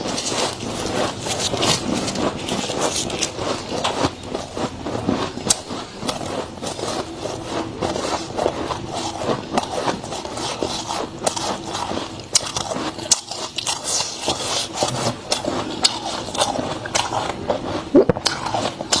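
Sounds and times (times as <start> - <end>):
frost crunching and crackling: 0.0 - 19.0.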